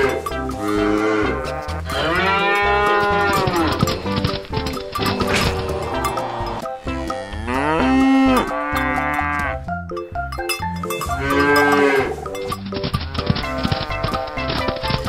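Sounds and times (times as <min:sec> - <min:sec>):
cow mooing: 0:00.0 - 0:04.1, 0:05.1 - 0:09.7, 0:11.1 - 0:14.8
background music: 0:00.0 - 0:15.0.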